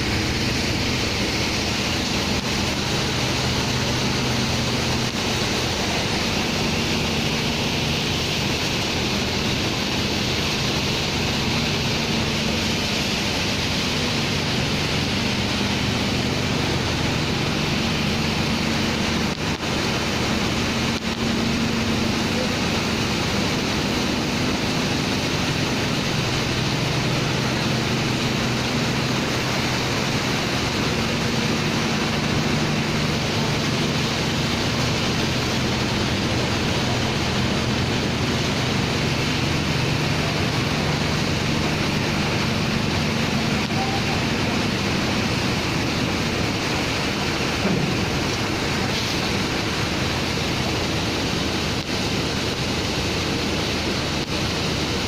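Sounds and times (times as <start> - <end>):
loud rushing noise: 0.0 - 55.0
machinery engine running: 0.0 - 55.0.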